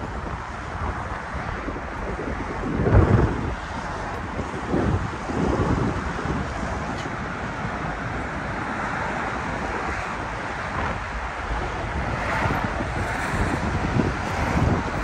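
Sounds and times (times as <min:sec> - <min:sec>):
city traffic rushing: 0:00.0 - 0:15.0
wind buffeting microphone: 0:00.0 - 0:15.0.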